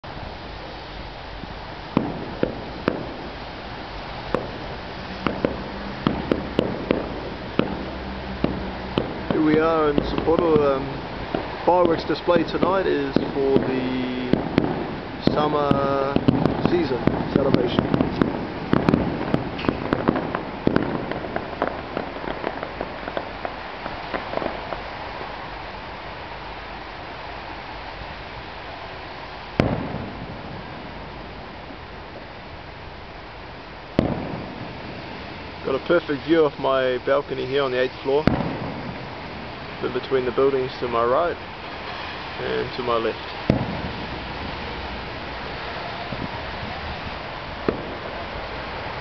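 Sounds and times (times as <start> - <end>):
steady background hiss: 0.0 - 49.0
distant fireworks bangs: 1.4 - 49.0.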